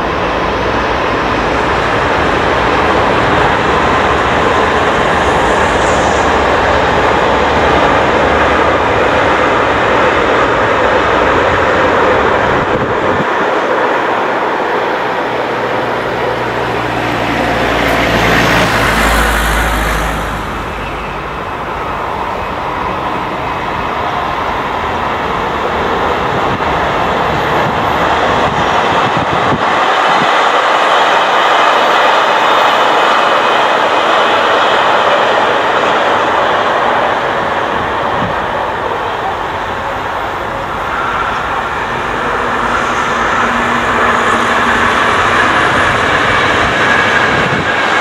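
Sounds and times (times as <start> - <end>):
high-speed trains passing: 0.0 - 48.0.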